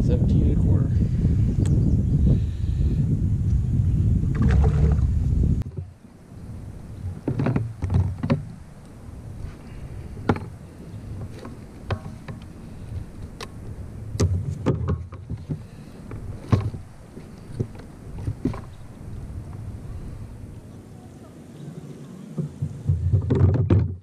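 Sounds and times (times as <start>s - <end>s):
low steady rumble: 0.0s - 21.4s.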